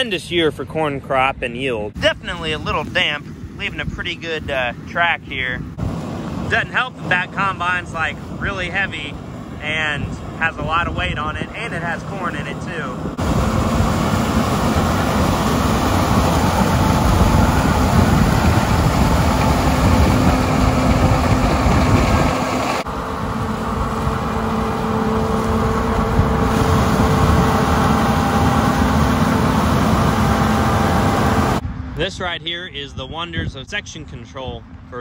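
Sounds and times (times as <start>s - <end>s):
combine harvester engine and machinery: 1.9s - 35.0s.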